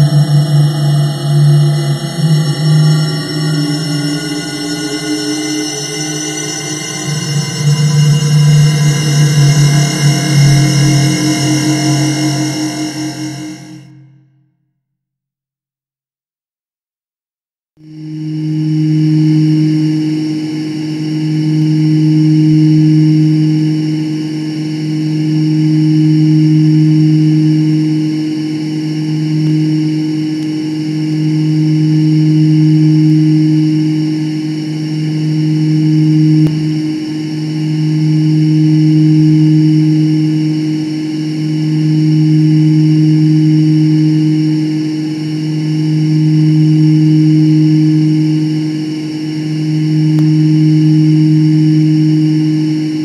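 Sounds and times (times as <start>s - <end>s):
synthetic drone: 0.0s - 14.2s, 17.9s - 53.0s.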